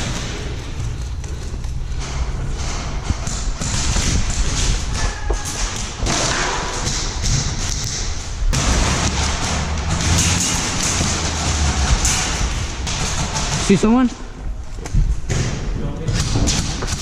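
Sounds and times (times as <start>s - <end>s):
rustling: 0.0s - 15.3s
footsteps: 0.0s - 17.0s.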